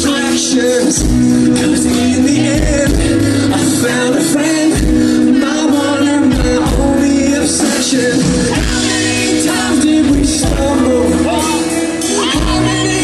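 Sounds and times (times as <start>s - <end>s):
person singing lead vocal: 0.0s - 13.0s
rock band playing live: 0.0s - 13.0s.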